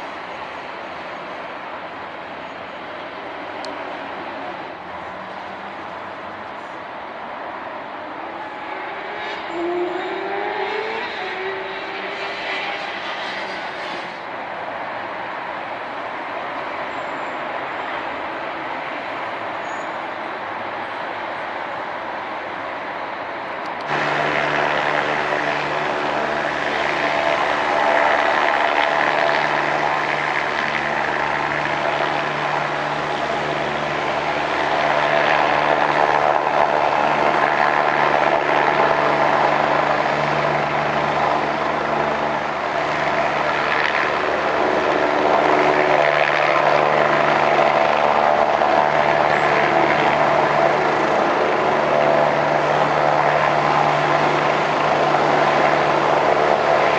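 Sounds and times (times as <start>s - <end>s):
helicopter engine and rotor whine: 0.0s - 56.9s.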